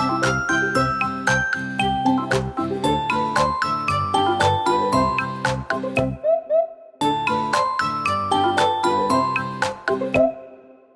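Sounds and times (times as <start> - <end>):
chiming bell-like notes: 0.0 - 6.1, 7.0 - 10.4.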